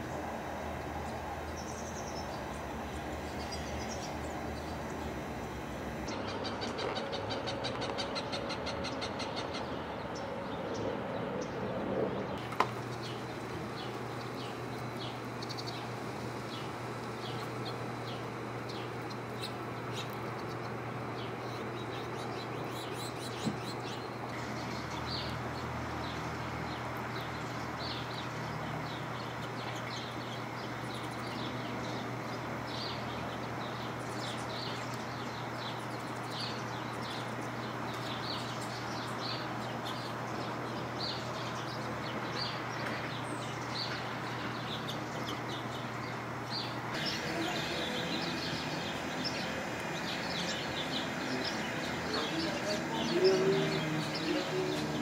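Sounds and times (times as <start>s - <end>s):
small birds chirping: 0.0s - 11.6s, 12.3s - 55.0s
constant background noise: 0.0s - 55.0s
steady low hum: 0.0s - 55.0s.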